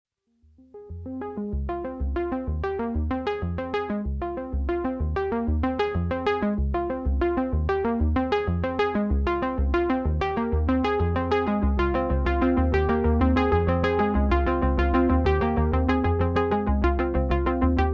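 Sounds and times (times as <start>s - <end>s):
electronic synthesizer music: 0.7s - 17.9s
steady bass pulse: 1.0s - 17.9s.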